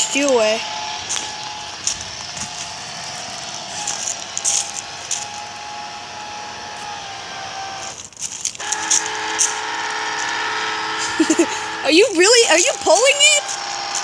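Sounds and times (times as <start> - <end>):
small electric motor whining: 0.0 - 14.0.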